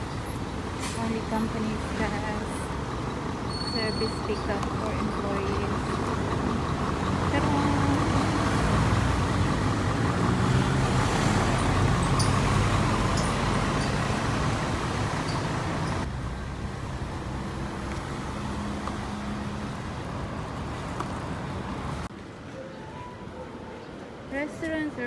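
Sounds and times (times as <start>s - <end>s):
cars and motorcycles driving by: 0.0s - 22.7s.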